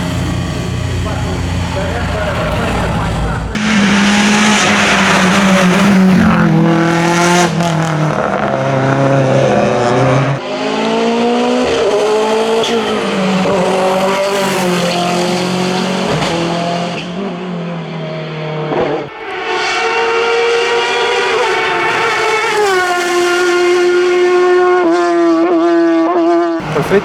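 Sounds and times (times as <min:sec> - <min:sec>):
racing car engine at high revs: 0:00.0 - 0:27.0.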